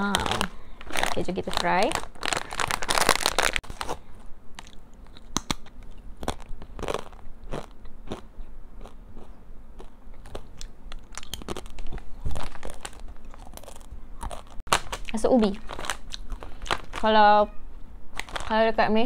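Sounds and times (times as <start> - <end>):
chips being bitten and chewed: 0.0 - 4.0, 4.6 - 17.1, 18.2 - 18.5.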